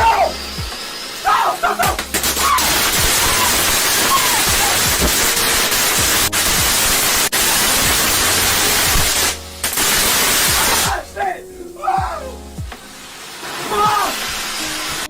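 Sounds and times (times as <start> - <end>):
firework hissing sparks: 0.2 - 11.0, 12.8 - 15.0.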